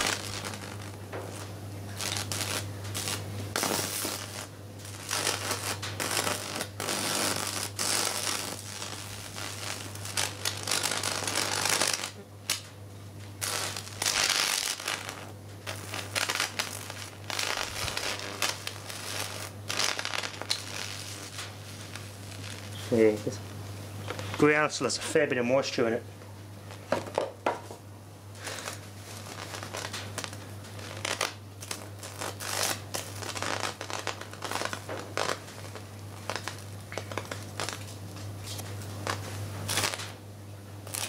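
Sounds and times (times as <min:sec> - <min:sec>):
electrical arc crackling: 0:00.0 - 0:26.0, 0:26.6 - 0:40.2
low electrical hum: 0:00.0 - 0:41.0.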